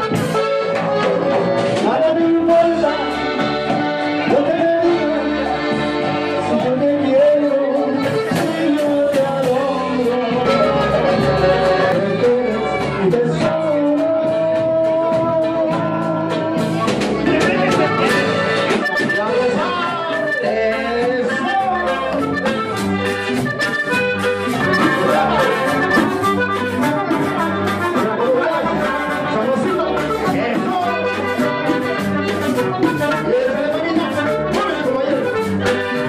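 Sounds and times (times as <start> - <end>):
accordion melody: 0.0 - 36.0
upbeat latin dance music: 0.0 - 36.0.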